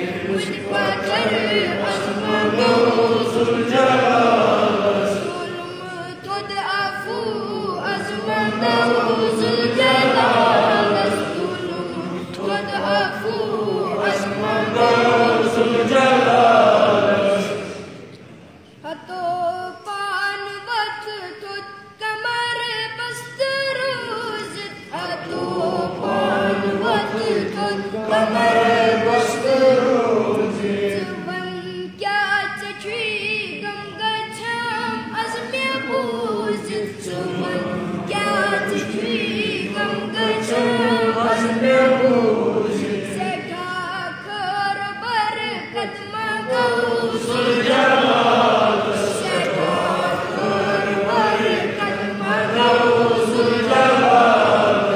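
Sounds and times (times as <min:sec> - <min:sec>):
chorus of voices singing: 0:00.0 - 0:18.3, 0:23.9 - 0:54.9
boy singing a hymn: 0:00.0 - 0:54.9.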